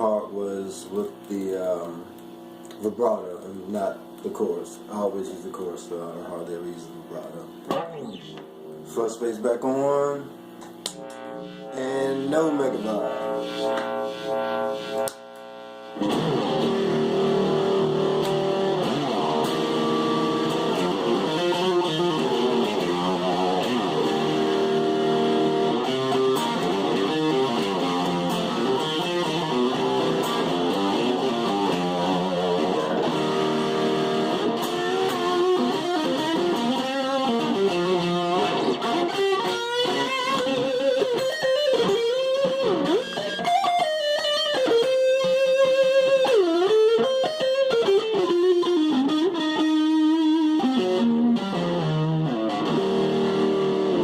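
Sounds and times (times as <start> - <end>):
fuzzy electric guitar lead: 0.0 - 54.0.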